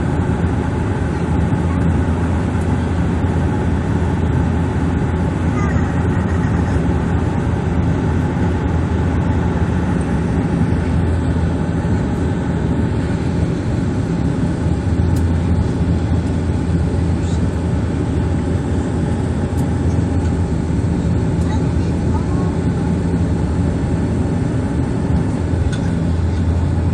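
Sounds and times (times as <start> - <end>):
low cabin hum: 0.0 - 26.9
turboprop propellers droning: 0.0 - 26.9.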